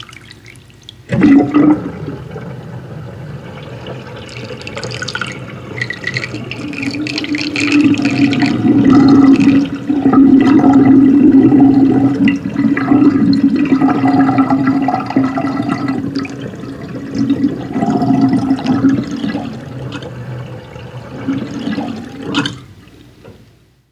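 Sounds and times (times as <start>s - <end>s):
bathwater sloshing: 0.0s - 23.1s.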